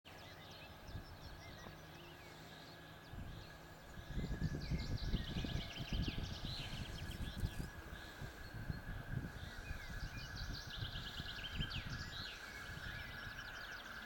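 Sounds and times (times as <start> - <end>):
birds singing and chirping: 0.1 - 14.0
low uneven rumble: 0.1 - 14.0.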